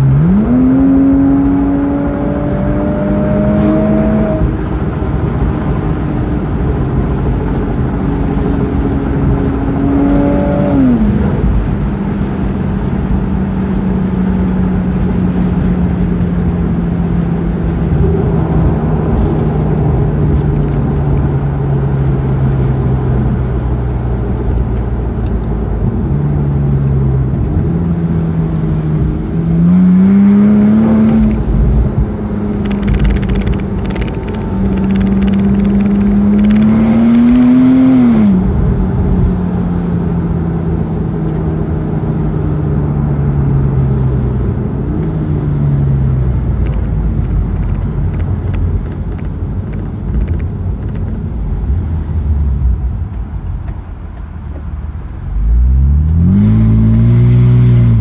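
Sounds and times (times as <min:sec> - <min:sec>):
car engine: 0:00.0 - 0:58.0
road noise inside car: 0:00.0 - 0:58.0.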